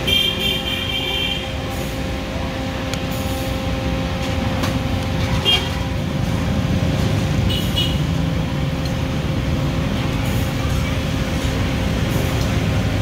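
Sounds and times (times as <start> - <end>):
constant hum: 0.0 - 13.0
street traffic rumble: 0.0 - 13.0.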